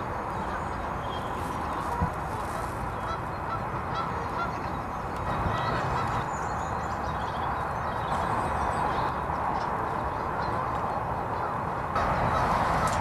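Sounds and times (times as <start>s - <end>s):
chorus of birds calling: 0.0s - 13.0s.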